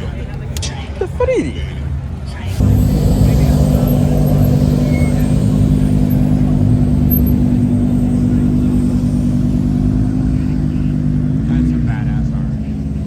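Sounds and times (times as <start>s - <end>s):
vehicle engine droning: 2.0s - 13.0s.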